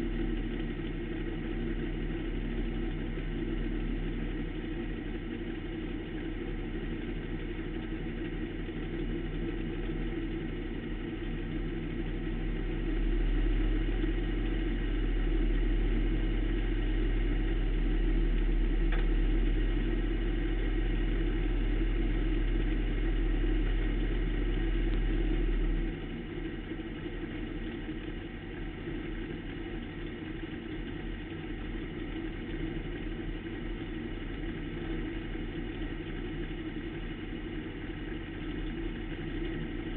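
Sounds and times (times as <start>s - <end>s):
deep low drone: 0.0s - 39.9s
race car engine running: 0.0s - 39.9s.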